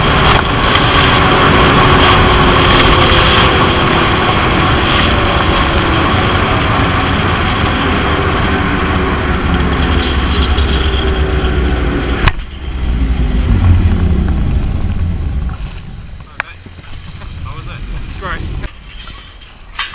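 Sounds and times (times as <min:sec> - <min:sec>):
wind rushing over camera: 0:00.0 - 0:18.7.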